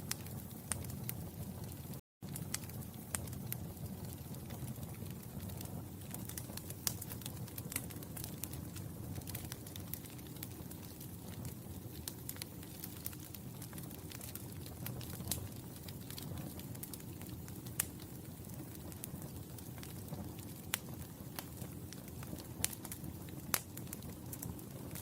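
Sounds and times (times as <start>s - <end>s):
fire popping and snapping: 0.0s - 25.0s
fire rumbling: 0.0s - 25.0s.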